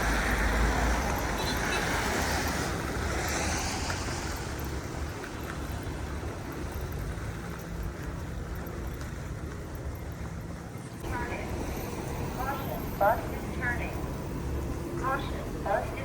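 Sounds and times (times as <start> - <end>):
low rumble of city traffic: 0.0 - 16.0
passing vehicle: 0.0 - 16.0.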